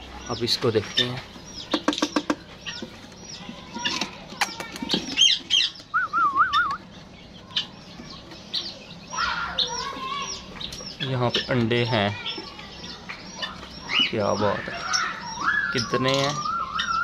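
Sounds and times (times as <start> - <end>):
parrots chirping: 0.0 - 17.0.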